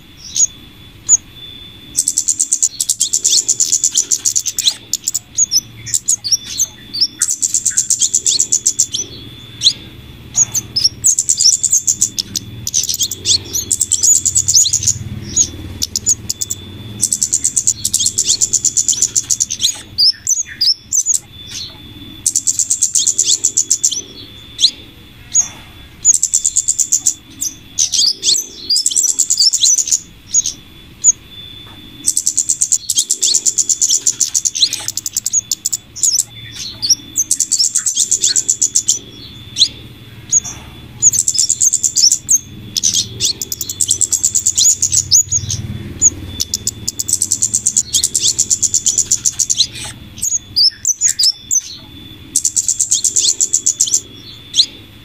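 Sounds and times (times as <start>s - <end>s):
downward-sweeping bird chirps: 0.0s - 55.0s
high ticking bird notes: 0.0s - 55.0s.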